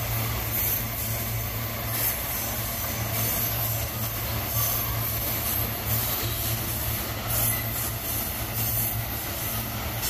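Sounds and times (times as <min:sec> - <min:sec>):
freight train wagons rolling on rails: 0:00.0 - 0:10.0.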